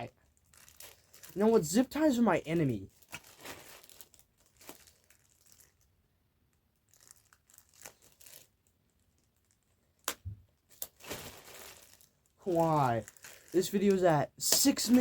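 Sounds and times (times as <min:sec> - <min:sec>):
packaging rustling and crinkling: 0:00.1 - 0:01.9, 0:02.9 - 0:15.0.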